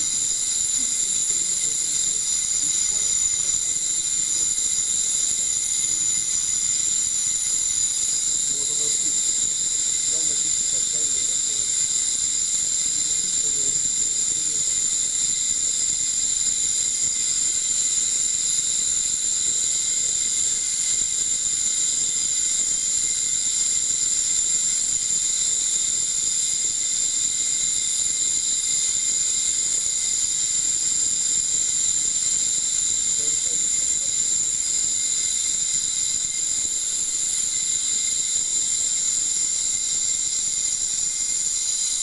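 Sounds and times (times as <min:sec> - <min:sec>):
ultrasonic emitter shrill whine: 0:00.0 - 0:19.8, 0:20.4 - 0:42.0.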